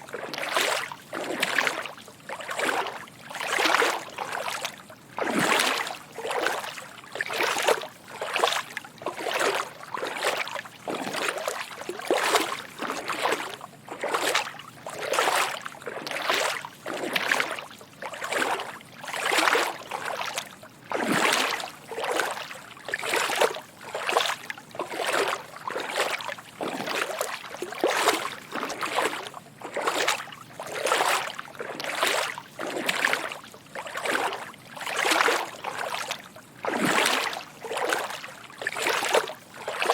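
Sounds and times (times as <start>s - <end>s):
footsteps wading through water: 0.0s - 39.9s.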